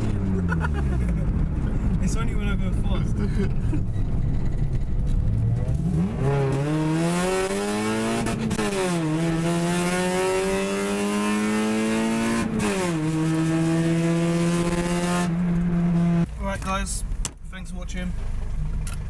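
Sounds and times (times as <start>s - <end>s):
vehicle engine accelerating: 0.0s - 16.3s.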